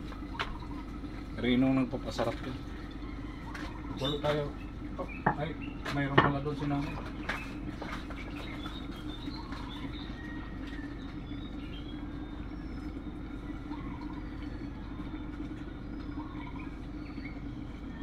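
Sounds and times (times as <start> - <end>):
faint bird chirps and coos: 0.0 - 18.0
steady low hum: 0.0 - 18.0.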